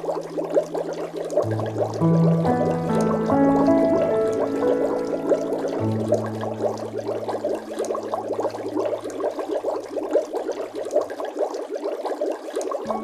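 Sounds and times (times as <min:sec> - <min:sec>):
water bubbling and gurgling: 0:00.0 - 0:13.0.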